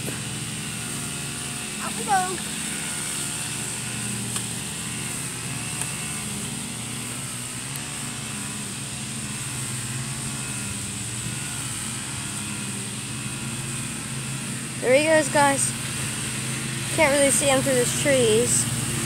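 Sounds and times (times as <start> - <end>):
lawn mower engines droning: 0.0 - 19.0.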